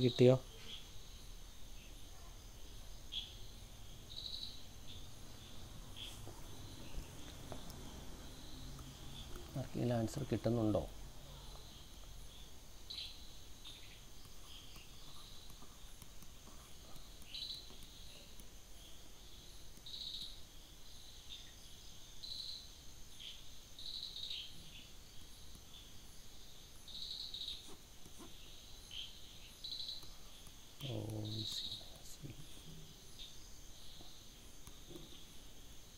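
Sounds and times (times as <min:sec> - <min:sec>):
faint steady high whine: 0:00.0 - 0:35.9.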